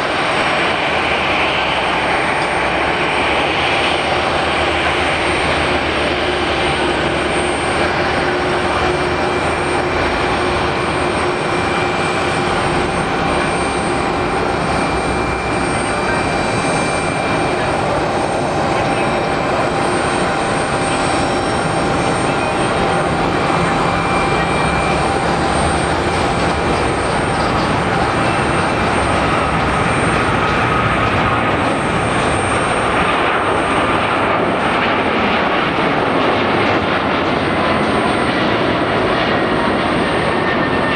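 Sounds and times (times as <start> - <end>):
jet engines roaring: 0.0 - 40.9.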